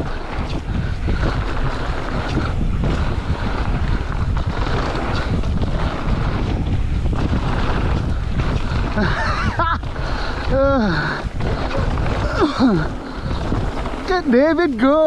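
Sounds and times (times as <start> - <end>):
bike tyres rumbling on trail: 0.0 - 15.0
wind buffeting microphone: 0.0 - 15.0.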